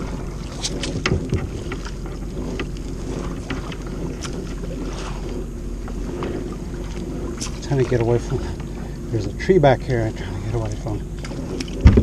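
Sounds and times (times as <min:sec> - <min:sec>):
steady low rumble: 0:00.0 - 0:12.0
water slapping against kayak hull: 0:00.0 - 0:12.0
wind on microphone: 0:00.0 - 0:12.0.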